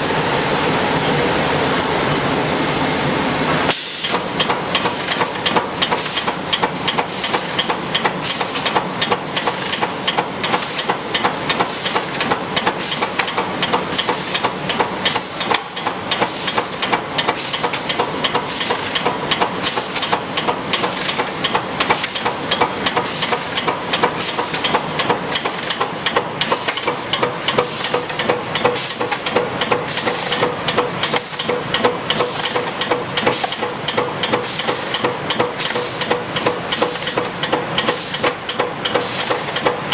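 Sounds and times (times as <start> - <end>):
welding machine clacks: 3.7 - 39.9
welding machine hiss: 3.7 - 39.9.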